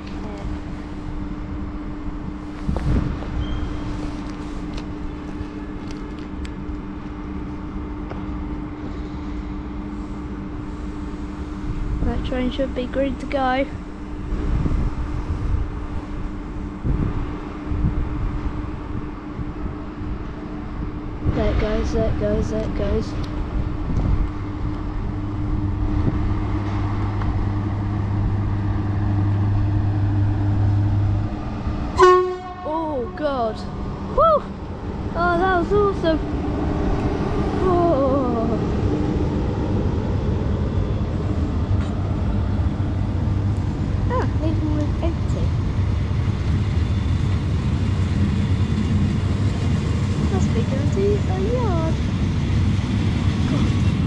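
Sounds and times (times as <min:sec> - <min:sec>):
locomotive low hum: 0:00.0 - 0:54.0
train rumbling: 0:00.0 - 0:54.0.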